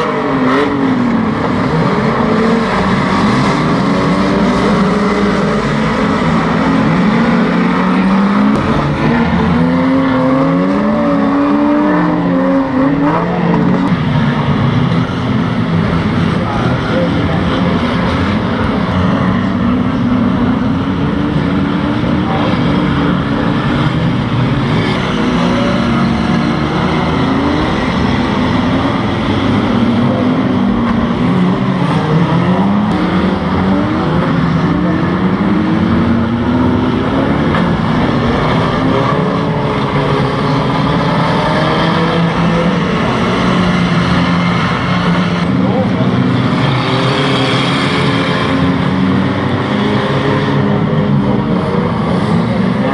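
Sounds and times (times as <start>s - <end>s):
racing car engines: 0.0s - 52.9s.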